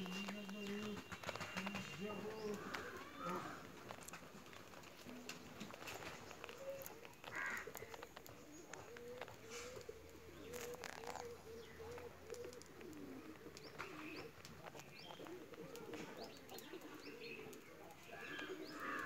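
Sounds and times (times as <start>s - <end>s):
dove cooing: 0.0s - 19.0s
faint high chirps and clicks: 0.0s - 19.0s.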